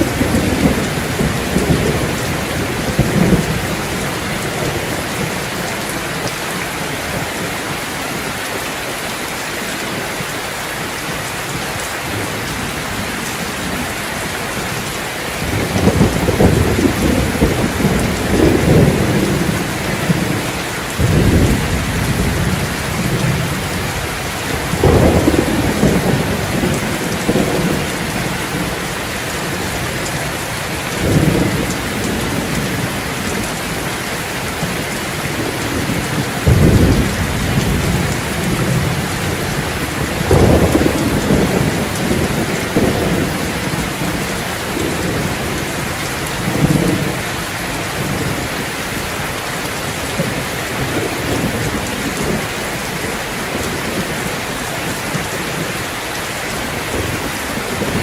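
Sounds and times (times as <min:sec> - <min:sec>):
thunder rumbling: 0:00.0 - 0:07.8, 0:11.3 - 0:55.8
steady rain falling: 0:00.0 - 0:58.0.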